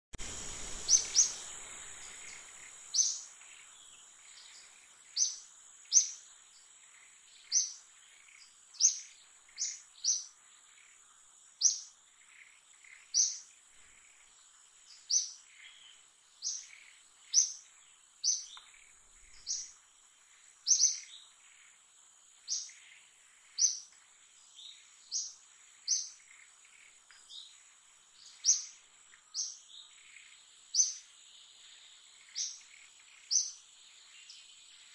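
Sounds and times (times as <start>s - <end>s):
bird chirping: 0.2s - 21.8s, 22.4s - 34.9s.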